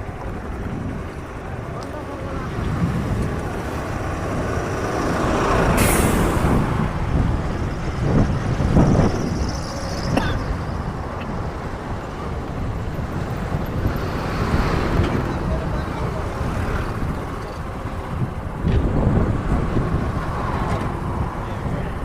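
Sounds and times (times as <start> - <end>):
heavy vehicles passing: 0.0 - 22.0.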